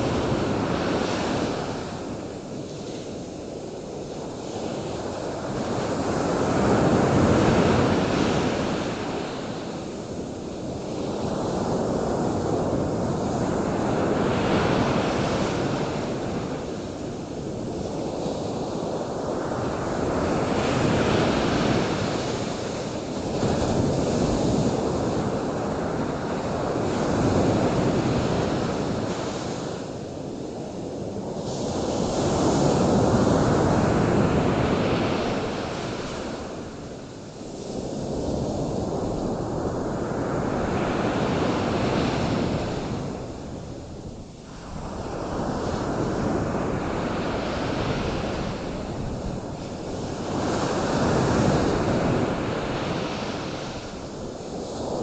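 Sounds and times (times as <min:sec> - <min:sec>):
surf washing in: 0:00.0 - 0:55.0.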